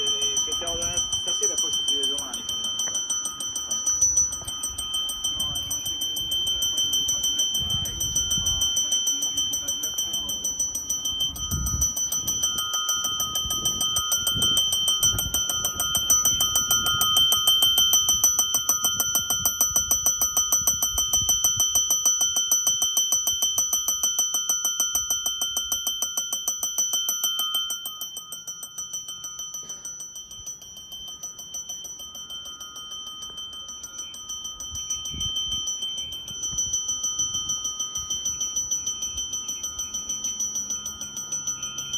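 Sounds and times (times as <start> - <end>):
electric bell ringing: 0.0 - 41.9.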